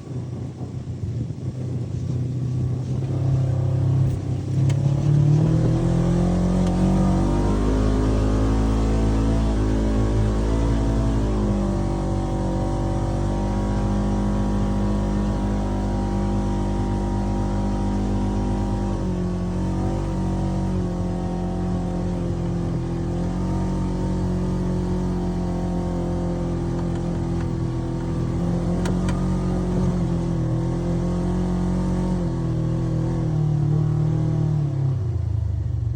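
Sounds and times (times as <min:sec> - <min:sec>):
engine running steadily: 0:00.0 - 0:35.9.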